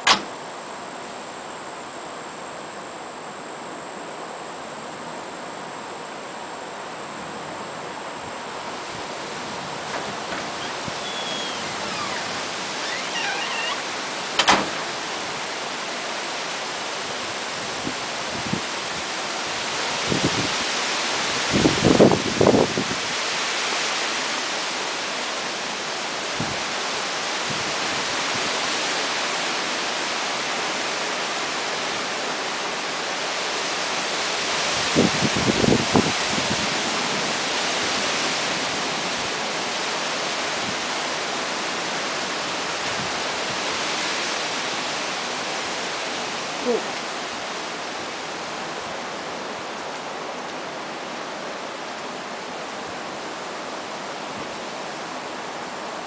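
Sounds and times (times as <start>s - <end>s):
heavy rain: 0.0s - 56.0s
storm wind: 5.6s - 56.0s.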